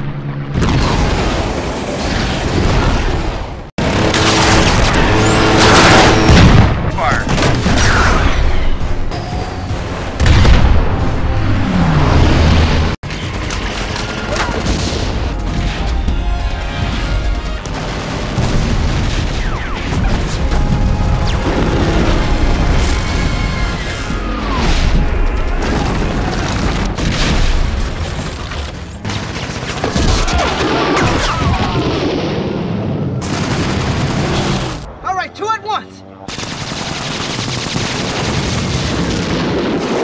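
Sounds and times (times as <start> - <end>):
heavy explosions and booms: 0.5 - 13.0, 14.6 - 35.0, 36.3 - 40.0
film music score: 3.9 - 36.9.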